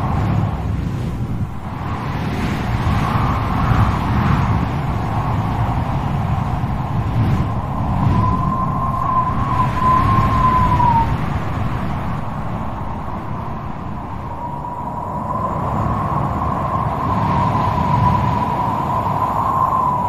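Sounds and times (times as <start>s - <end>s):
strong wind whistling: 0.0s - 20.0s.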